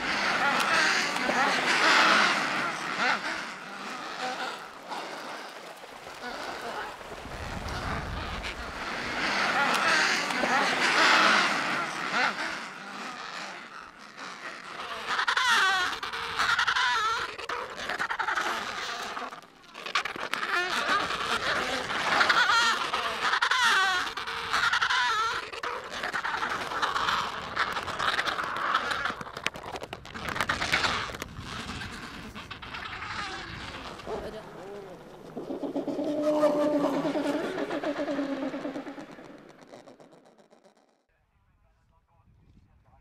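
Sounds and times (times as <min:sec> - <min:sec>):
penguins calling: 0:00.0 - 0:04.8, 0:07.7 - 0:19.2, 0:19.9 - 0:29.2, 0:30.2 - 0:40.2.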